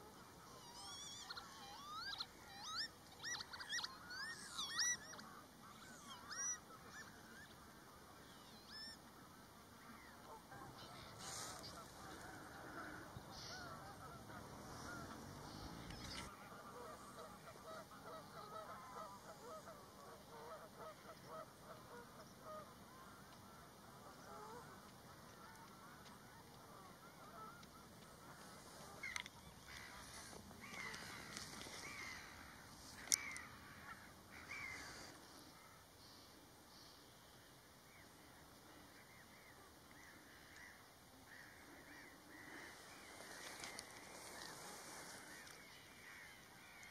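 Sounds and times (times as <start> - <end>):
geese honking and chattering: 0.0 - 35.8, 38.4 - 46.9.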